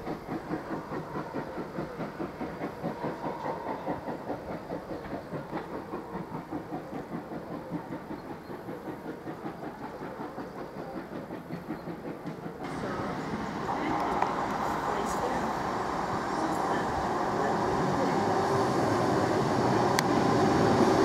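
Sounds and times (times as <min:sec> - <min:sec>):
steam locomotive exhaust beats: 0:00.0 - 0:21.0.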